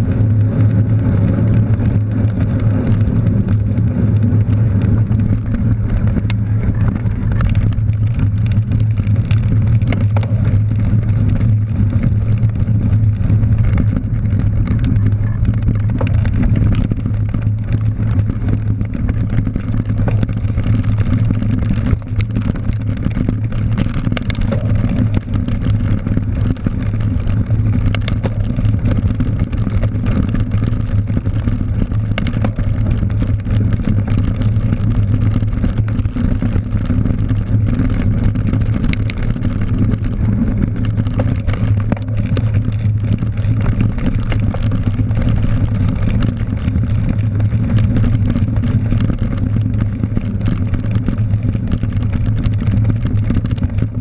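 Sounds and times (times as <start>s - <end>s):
bike knocking over bumps: 0.0s - 54.0s
bike rolling vibration: 0.0s - 54.0s
low rumble of wind: 0.0s - 54.0s.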